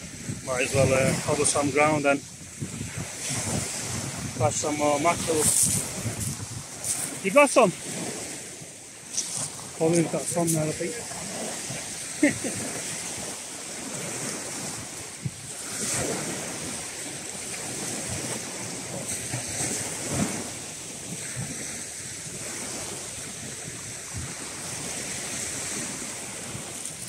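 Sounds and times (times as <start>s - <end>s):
waves washing onto shingle: 0.0s - 27.0s
wind buffeting microphone: 0.0s - 27.0s.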